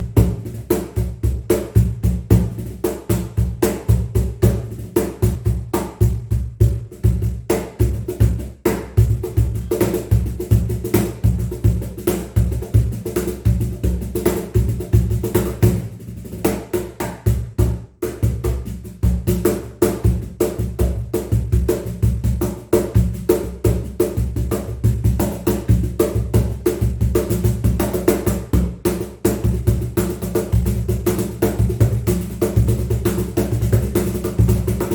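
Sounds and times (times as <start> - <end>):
cajon played by hand: 0.0 - 34.9.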